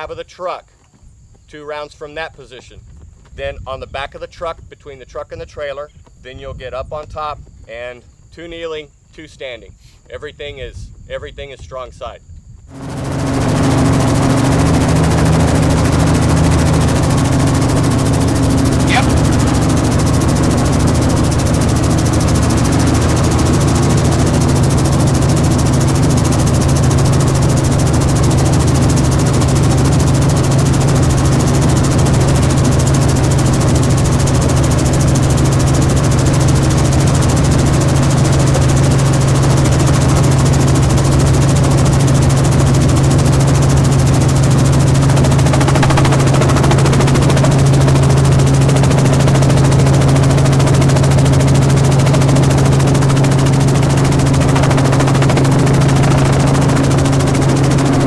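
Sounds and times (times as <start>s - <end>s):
helicopter drone: 10.2s - 58.0s.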